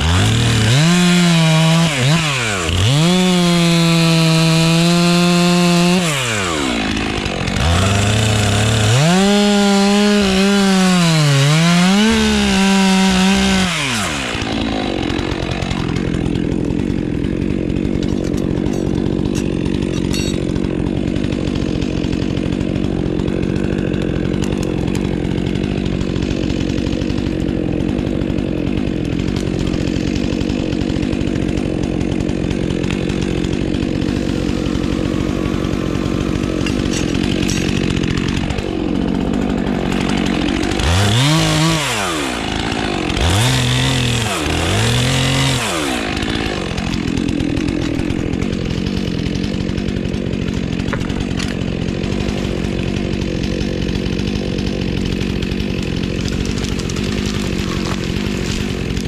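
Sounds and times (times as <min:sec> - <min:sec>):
chainsaw revving and running: 0:00.0 - 0:59.0.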